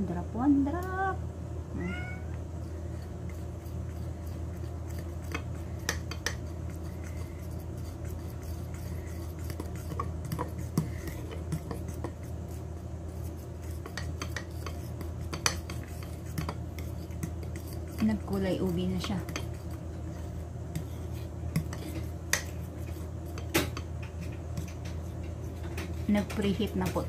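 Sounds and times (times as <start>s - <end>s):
spoon stirring batter: 2.3s - 27.0s.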